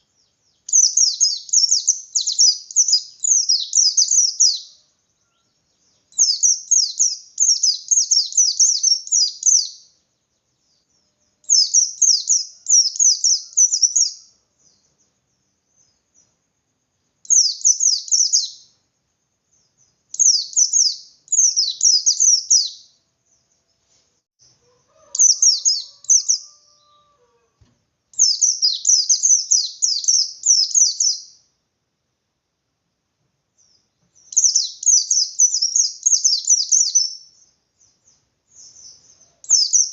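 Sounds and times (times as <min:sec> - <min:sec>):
bird chirping song: 0:00.0 - 0:31.6, 0:33.4 - 0:39.9.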